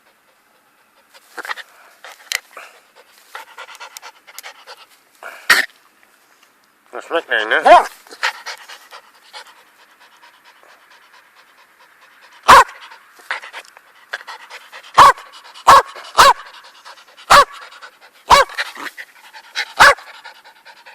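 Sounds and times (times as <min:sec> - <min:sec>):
dog panting: 0:00.0 - 0:05.0, 0:07.7 - 0:20.9.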